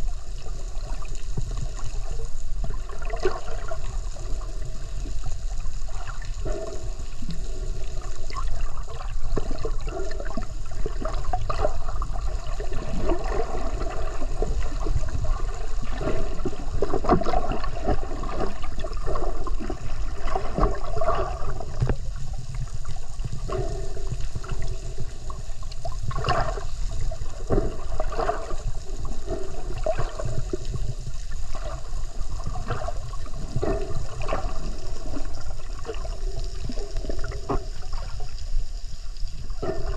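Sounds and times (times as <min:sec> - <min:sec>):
underwater water gurgling: 0:00.0 - 0:39.9
water swishes: 0:00.0 - 0:39.9.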